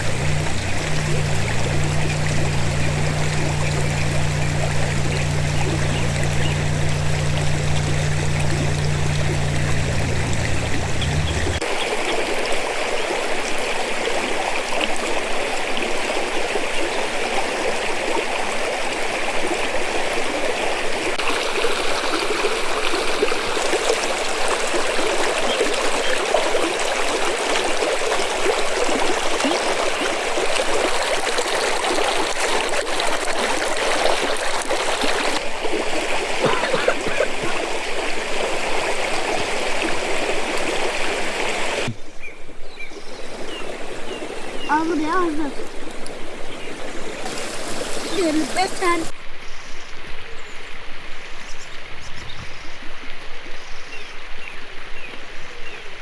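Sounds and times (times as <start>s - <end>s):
stream water flowing: 0.0s - 49.3s.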